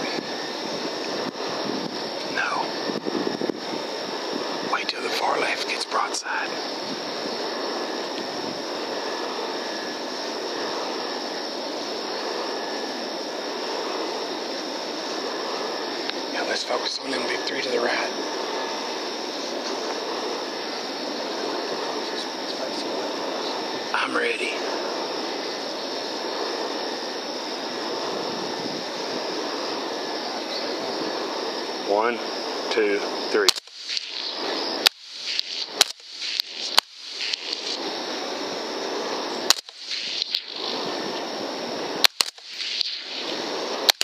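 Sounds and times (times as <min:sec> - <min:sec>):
faint high whine: 0:00.0 - 0:44.0
steady rushing noise: 0:00.0 - 0:44.0.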